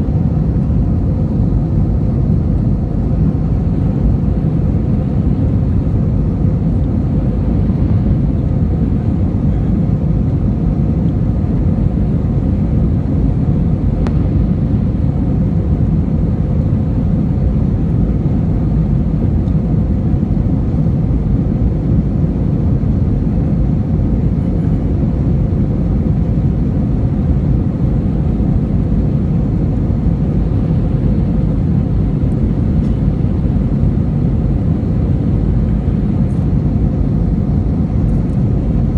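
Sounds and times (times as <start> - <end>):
airliner engines droning in flight: 0.0 - 38.9.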